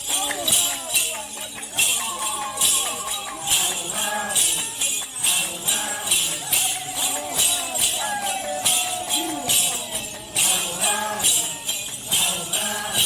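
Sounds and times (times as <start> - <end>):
jingling percussion: 0.0 - 13.0.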